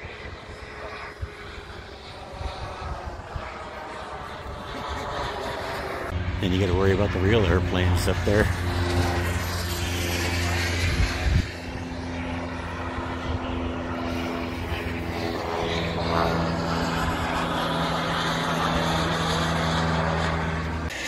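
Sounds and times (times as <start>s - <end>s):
model aircraft engine drone: 0.0s - 21.0s.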